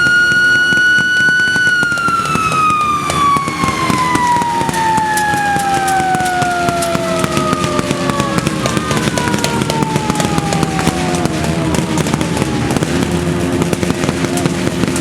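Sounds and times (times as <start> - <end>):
crackling and popping: 0.0 - 15.0
low engine hum: 0.0 - 15.0
siren winding down: 0.0 - 15.0.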